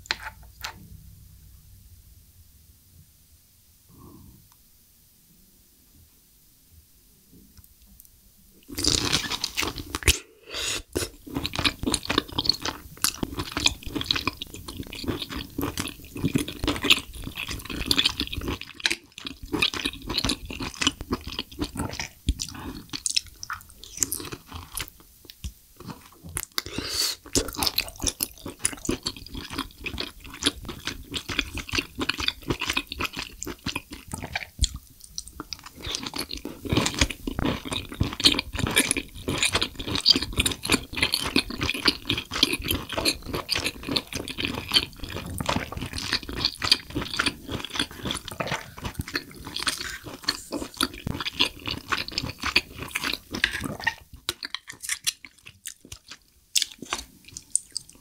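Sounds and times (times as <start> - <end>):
close chewing mouth sounds: 8.7 - 10.2, 11.0 - 58.0.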